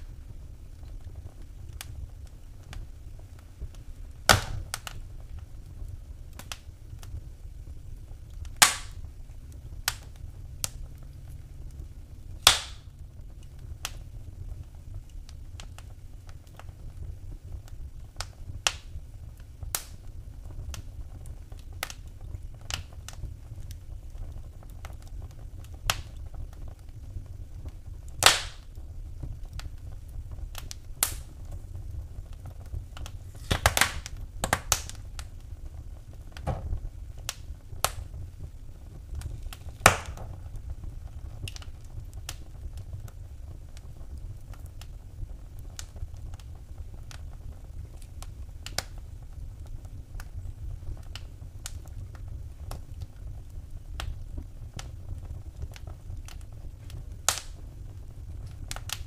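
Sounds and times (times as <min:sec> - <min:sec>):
loud fire snaps: 0:00.0 - 0:59.0
low steady rumble: 0:00.0 - 0:59.0
wood fire crackling and popping: 0:00.0 - 0:59.0.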